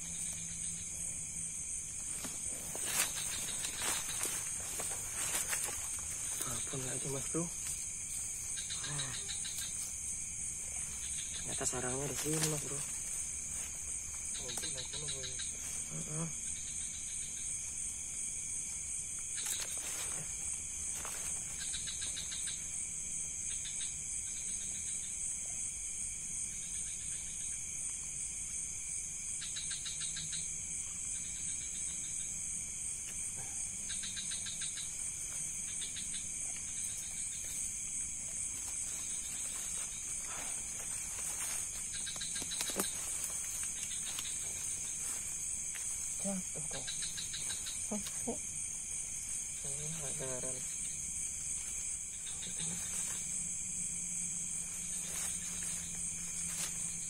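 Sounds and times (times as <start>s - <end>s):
pulsed insect chirps: 0.0s - 25.4s, 28.7s - 57.0s
high-pitched cricket trill: 0.0s - 57.0s
low insect buzz: 0.0s - 57.0s.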